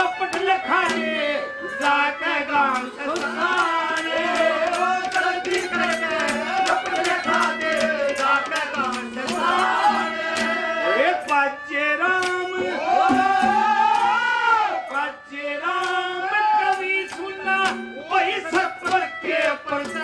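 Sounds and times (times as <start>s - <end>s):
instrumental accompaniment with beat: 0.0s - 20.0s
man singing: 0.0s - 20.0s.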